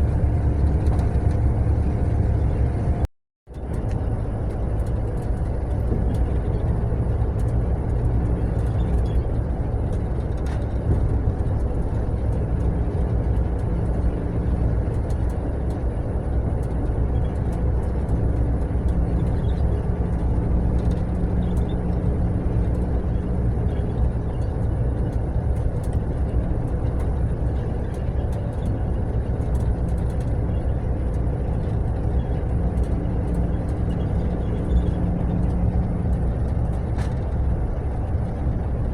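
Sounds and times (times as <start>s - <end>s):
bus engine drone: 0.0s - 38.9s
road rumble: 0.0s - 38.9s.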